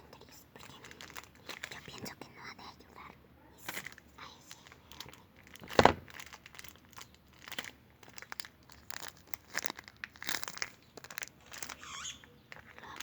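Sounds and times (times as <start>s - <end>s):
crinkling and crackling: 0.0s - 13.0s.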